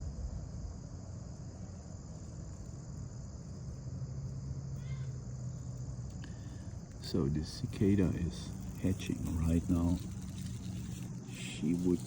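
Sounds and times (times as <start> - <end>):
insects calling: 0.0 - 12.0
low steady hum: 0.0 - 12.0.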